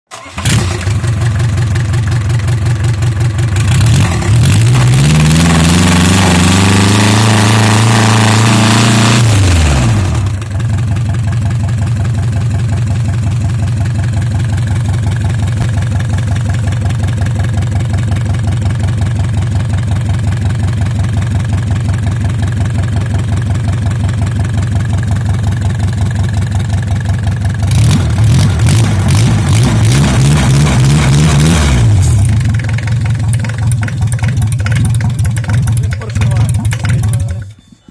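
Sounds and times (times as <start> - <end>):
diesel engine idling and revving: 0.1 - 37.6.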